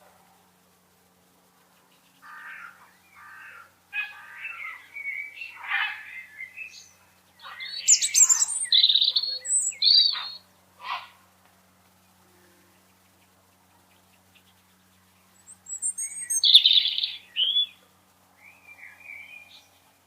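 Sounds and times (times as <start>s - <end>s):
small birds chirping: 1.3s - 11.2s, 11.9s - 20.0s.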